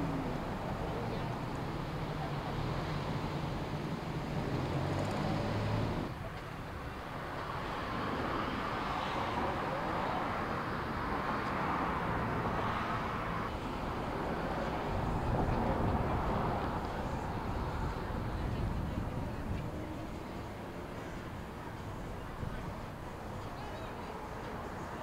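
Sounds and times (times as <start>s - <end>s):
street traffic noise: 0.0s - 25.0s.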